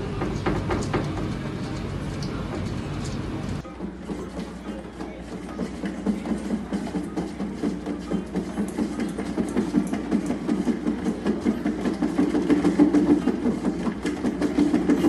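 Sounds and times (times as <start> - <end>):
cat exercise wheel rumbling: 0.0 - 15.0.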